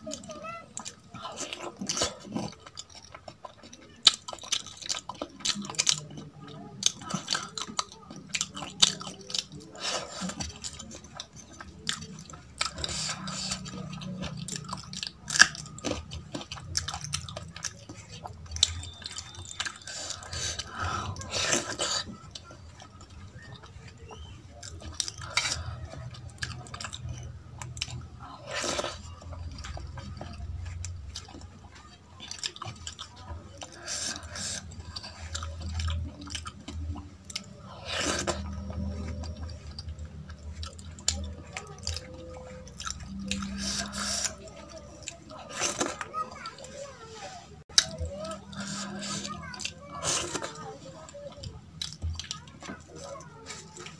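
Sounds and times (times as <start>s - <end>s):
chewing: 0.0s - 53.9s
wet squishing of food: 0.0s - 53.9s.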